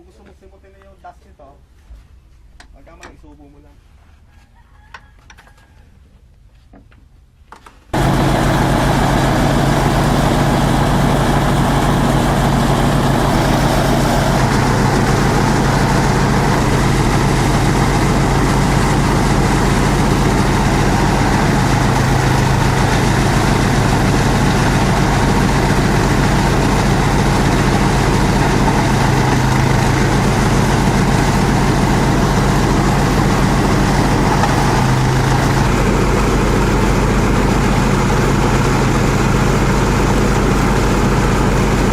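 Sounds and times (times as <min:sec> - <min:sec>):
shredder machine humming: 0:08.0 - 0:41.9.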